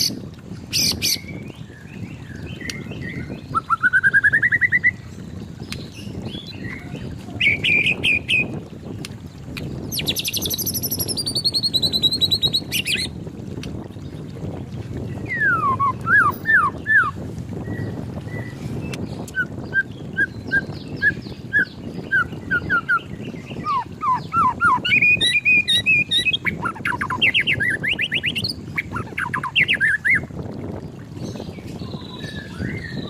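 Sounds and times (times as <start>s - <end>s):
songbird whistling and trilling: 0.7s - 5.0s, 5.7s - 8.5s, 9.9s - 13.1s, 15.2s - 30.2s, 31.2s - 33.0s.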